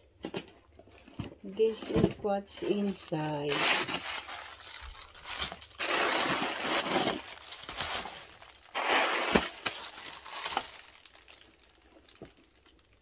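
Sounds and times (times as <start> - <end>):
paper crinkling and rustling: 0.8 - 13.0.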